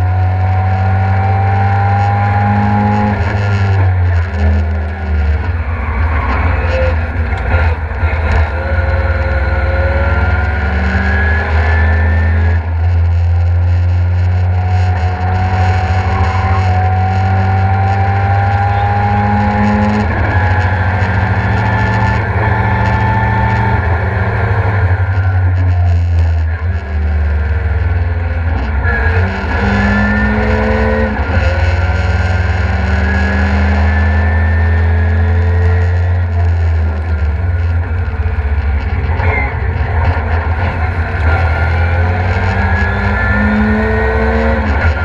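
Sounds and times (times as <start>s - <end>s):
rotary engine accelerating hard: 0.0s - 45.0s.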